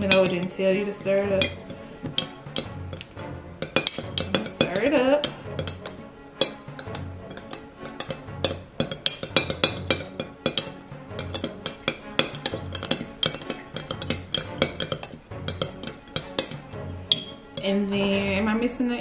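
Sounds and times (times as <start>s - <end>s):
spoon clinking against glass: 0.0s - 0.6s, 1.3s - 3.0s, 3.6s - 17.7s
background music with beat: 0.0s - 18.8s.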